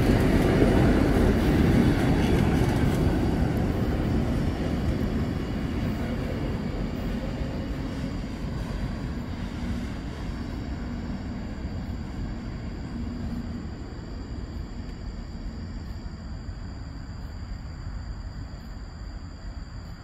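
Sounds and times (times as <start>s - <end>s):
train wheels rumbling on rails: 0.0s - 16.7s.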